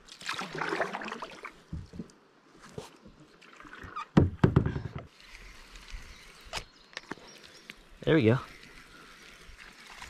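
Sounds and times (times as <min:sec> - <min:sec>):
water lapping at a kayak: 0:00.0 - 0:04.2, 0:05.1 - 0:10.0.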